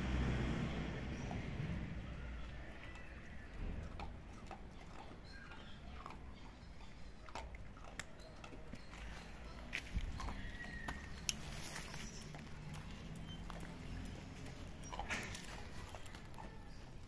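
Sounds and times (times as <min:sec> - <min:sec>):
animals crunching dry kibble: 0:01.2 - 0:17.0.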